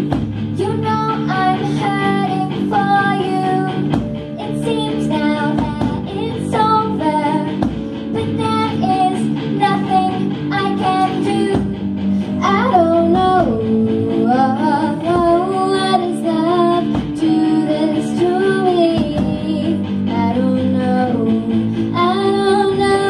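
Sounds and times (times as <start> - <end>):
drums: 0.0 - 23.0
electric guitars: 0.0 - 23.0
girls singing together: 0.6 - 11.8, 12.4 - 23.0.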